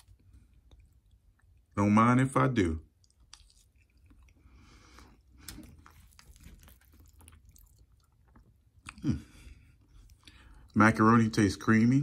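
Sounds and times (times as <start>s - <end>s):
faint chewing: 0.0s - 1.8s, 2.9s - 10.8s.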